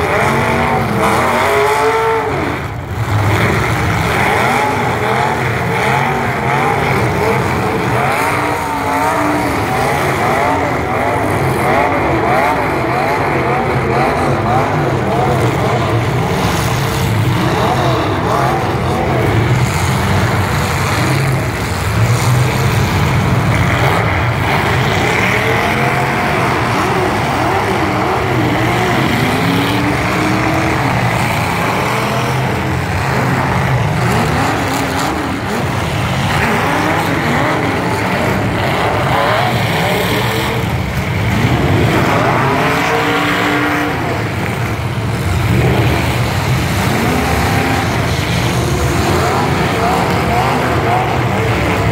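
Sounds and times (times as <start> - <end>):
truck engines revving hard: 0.0 - 51.9.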